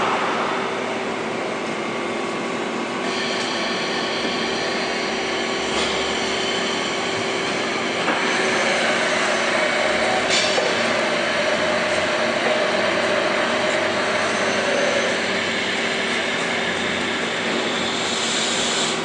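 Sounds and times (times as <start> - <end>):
boring mill machine humming: 0.0 - 19.0.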